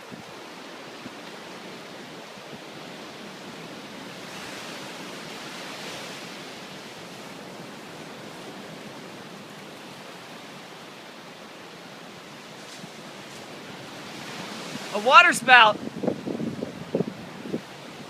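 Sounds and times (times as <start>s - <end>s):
storm wind and water rushing: 0.0s - 18.0s.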